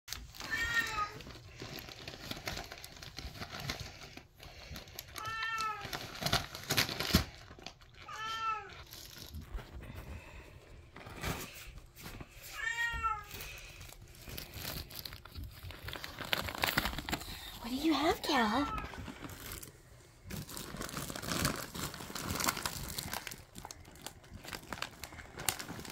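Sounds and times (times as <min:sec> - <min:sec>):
wrapping paper crinkling and tearing: 0:00.1 - 0:25.9.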